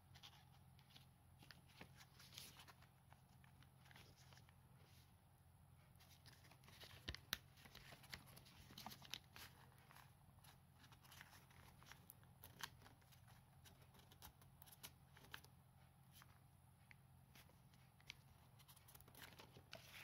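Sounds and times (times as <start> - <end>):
low steady hum: 0.0 - 20.0
paper crinkling being folded: 0.1 - 4.9, 6.0 - 15.5, 17.3 - 20.0.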